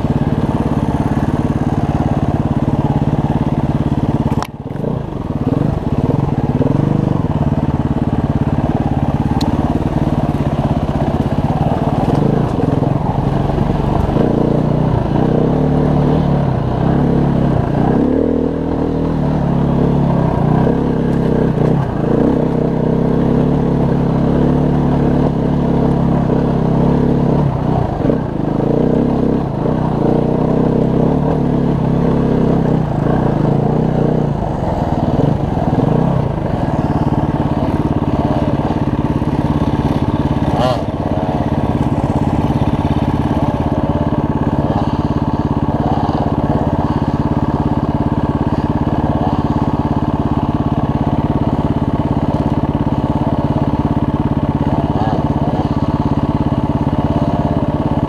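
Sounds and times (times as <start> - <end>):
dirt bike engine idling: 0.0 - 58.0
dirt bike engine revving: 0.0 - 58.0.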